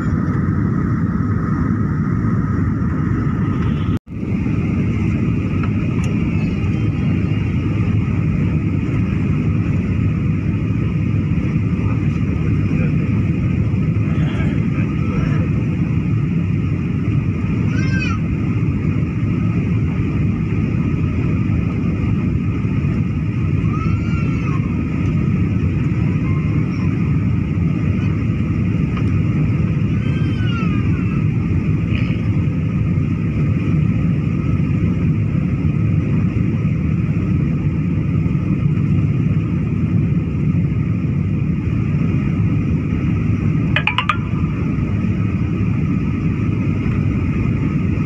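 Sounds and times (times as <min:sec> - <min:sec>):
airliner cabin roar: 0:00.0 - 0:48.0.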